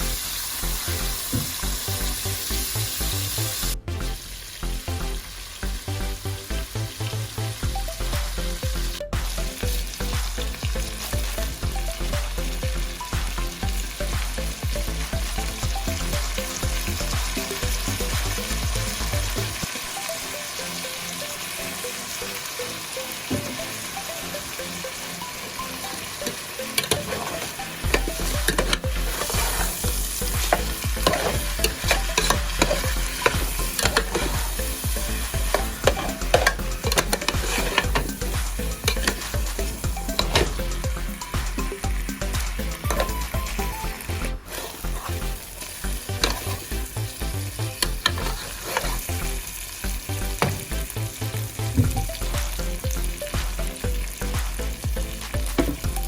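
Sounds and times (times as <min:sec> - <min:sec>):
food sizzling in a hot pan: 0:00.0 - 0:56.0.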